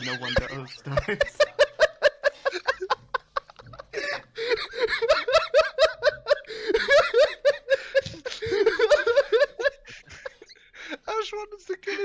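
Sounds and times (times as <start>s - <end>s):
group of people laughing: 0.0s - 11.0s.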